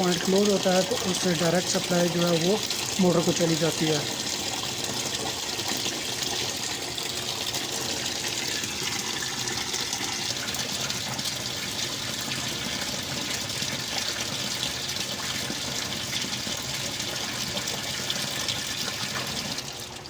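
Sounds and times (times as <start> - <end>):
water pouring into washing machine: 0.0 - 20.0.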